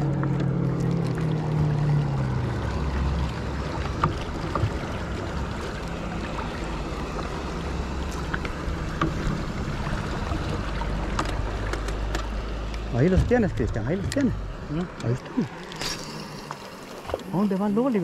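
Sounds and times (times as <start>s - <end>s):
low hum: 0.0s - 18.0s
water lapping at a boat: 0.0s - 18.0s
wind: 0.0s - 18.0s.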